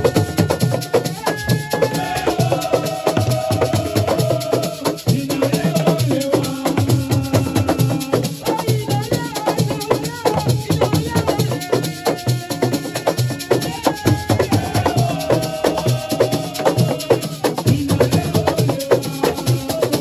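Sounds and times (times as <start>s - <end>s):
fast drum and shaker percussion: 0.0s - 20.0s.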